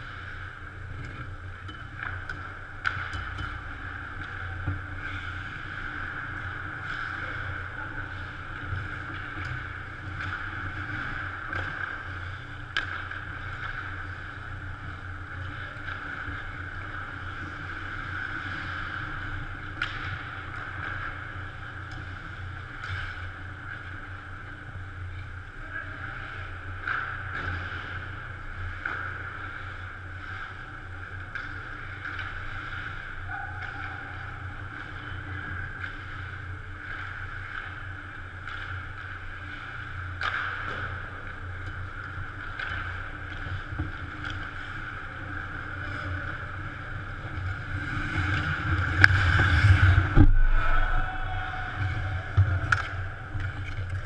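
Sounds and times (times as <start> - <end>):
hockey sticks and puck clicks: 0.0 - 25.4, 26.1 - 54.0
ice rink hum: 0.0 - 54.0.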